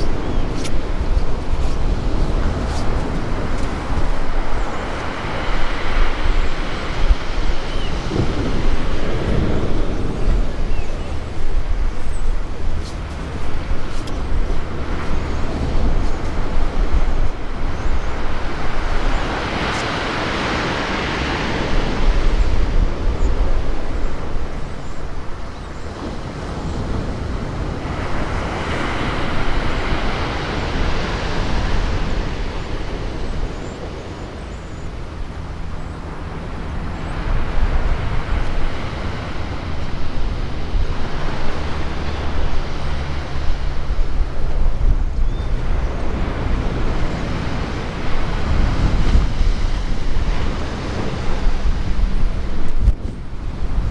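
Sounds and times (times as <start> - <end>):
sea waves breaking on sandy beach: 0.0 - 53.9
wind buffeting microphone: 0.0 - 53.9.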